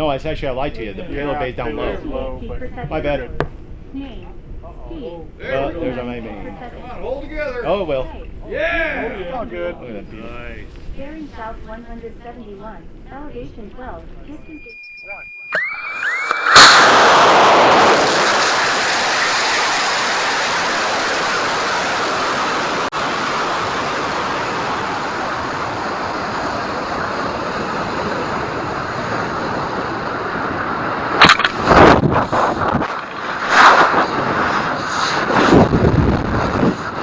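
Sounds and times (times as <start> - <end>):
rocket motor roar: 0.0 - 14.5, 15.6 - 37.0.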